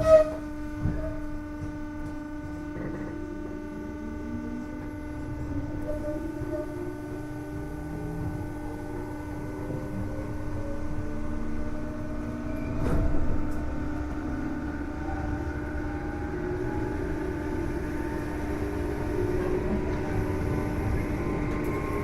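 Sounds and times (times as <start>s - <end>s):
constant electrical hum: 0.0s - 22.0s
train motor whine: 0.0s - 22.0s
train running rumble: 0.0s - 22.0s.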